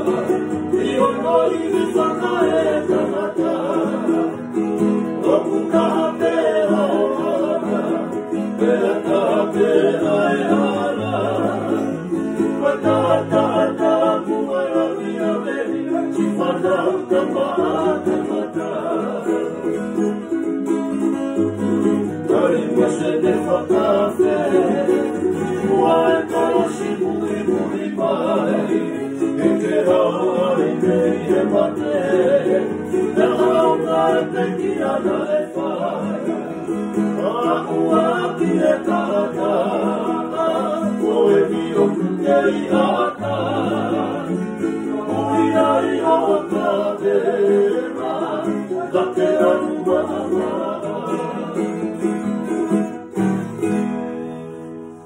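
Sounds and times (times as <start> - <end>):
men singing in harmony: 0.0 - 52.7
acoustic guitars strummed: 0.0 - 55.0.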